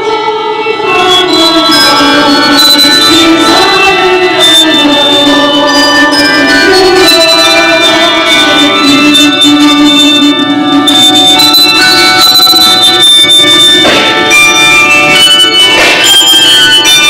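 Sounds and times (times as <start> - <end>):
handbells ringing chords: 1.0 - 17.0.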